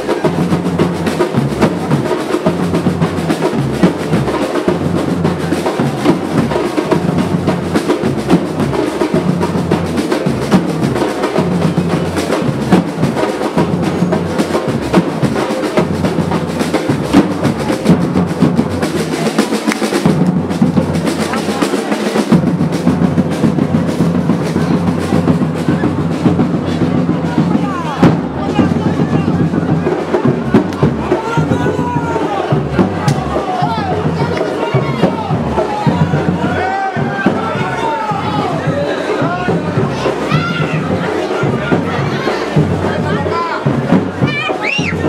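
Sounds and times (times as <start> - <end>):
snare and bass drumming: 0.0 - 45.0.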